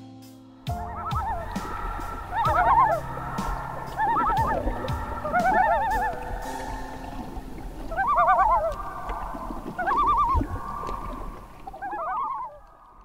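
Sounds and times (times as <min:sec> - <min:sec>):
faint sustained tones: 0:00.6 - 0:12.8
birds warbling: 0:00.7 - 0:13.0.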